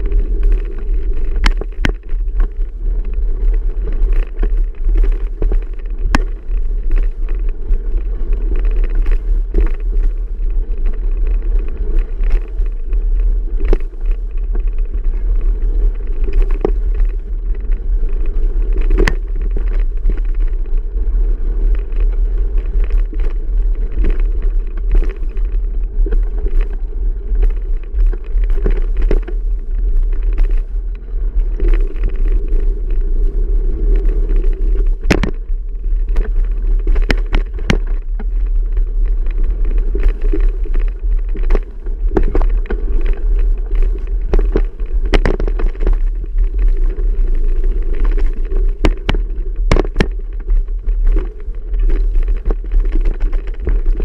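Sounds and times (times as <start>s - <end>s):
bicycle rattling clicks and knocks: 0.0s - 54.0s
wind buffeting microphone: 0.0s - 54.0s.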